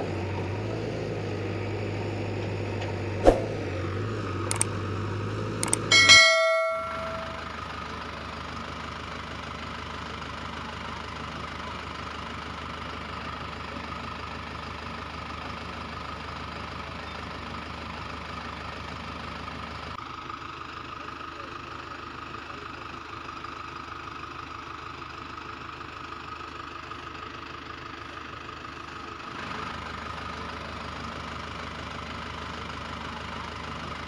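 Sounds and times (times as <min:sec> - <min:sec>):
engine-like idling drone: 0:00.0 - 0:34.0.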